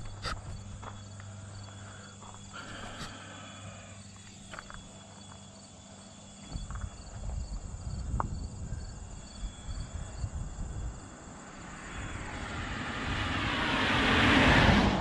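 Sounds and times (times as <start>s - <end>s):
insects chirring: 0.0s - 14.4s
low even hum: 0.0s - 15.0s.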